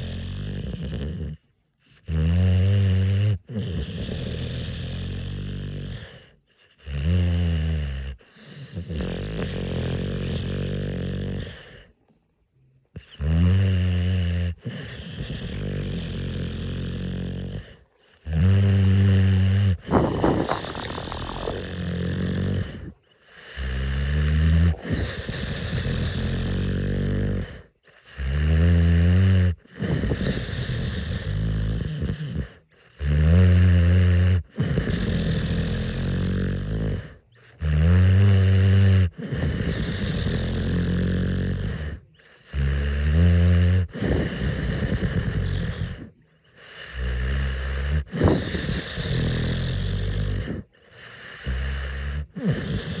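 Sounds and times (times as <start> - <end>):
dog snoring: 0.0 - 11.9, 12.9 - 53.0.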